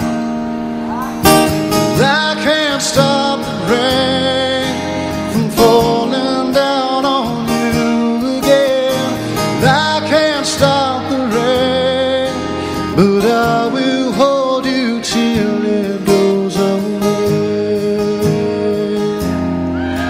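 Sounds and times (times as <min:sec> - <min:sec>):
live band backing: 0:00.0 - 0:11.3, 0:15.2 - 0:20.0
strummed acoustic guitar: 0:00.0 - 0:20.0
man singing slow song: 0:01.7 - 0:20.0.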